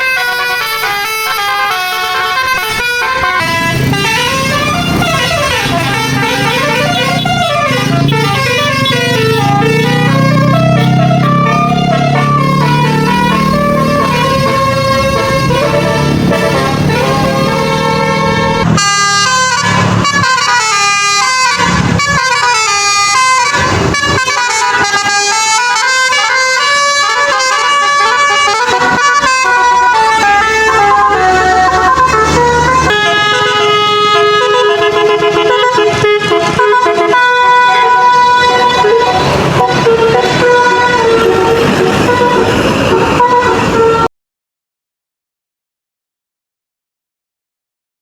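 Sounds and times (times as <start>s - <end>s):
bus musical horn melody: 0.0s - 44.1s.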